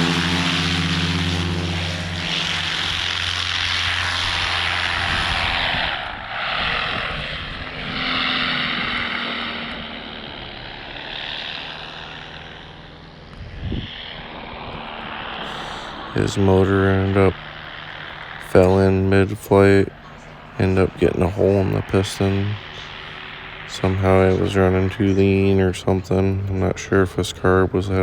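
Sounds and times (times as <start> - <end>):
paramotor engine and propeller drone: 0.0 - 28.0
rushing wind: 0.0 - 28.0.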